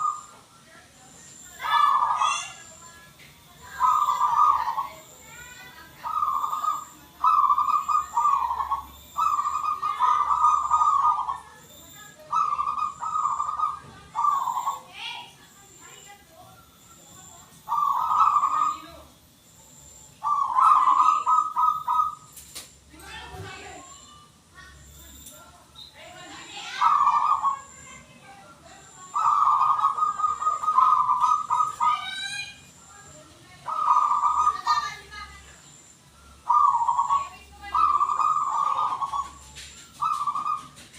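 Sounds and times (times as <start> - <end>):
dove cooing: 0.0 - 0.5, 1.3 - 2.8, 3.5 - 15.3, 17.1 - 22.4, 25.4 - 40.9.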